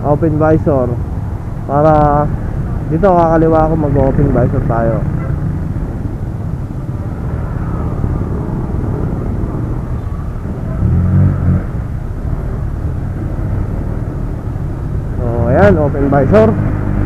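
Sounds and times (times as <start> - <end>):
wind buffeting microphone: 0.9 - 17.0.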